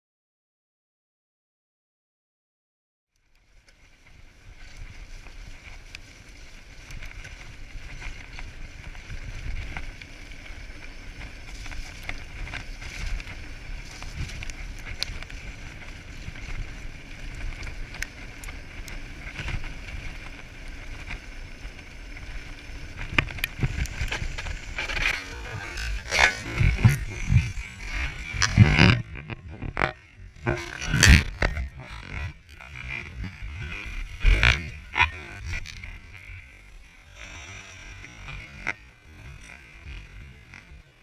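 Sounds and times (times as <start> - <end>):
bike clicks and rattles: 3.2 - 36.5
bicycle tyre roar on dirt: 3.2 - 41.0
wind rumble on microphone: 3.5 - 41.0.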